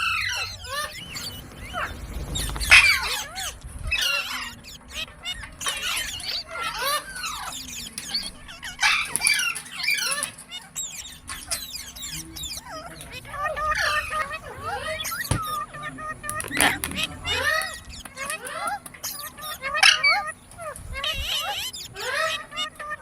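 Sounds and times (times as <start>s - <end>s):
parrot chattering and squawking: 0.0s - 23.0s.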